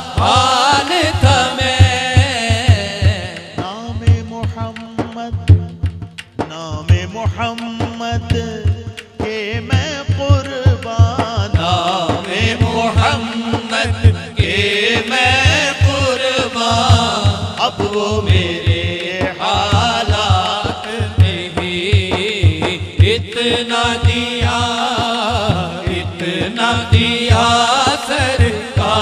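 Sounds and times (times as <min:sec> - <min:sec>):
man singing through microphone: 0:00.0 - 0:05.7, 0:06.4 - 0:29.0.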